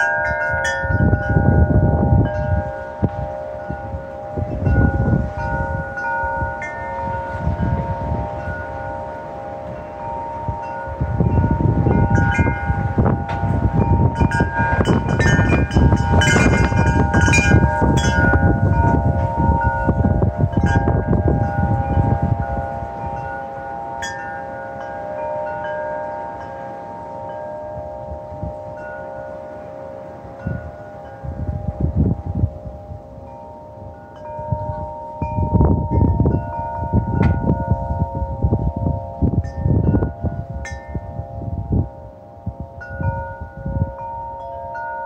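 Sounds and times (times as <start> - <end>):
wind chimes ringing: 0.0 - 45.0
wind rumbling on microphone: 0.0 - 45.0.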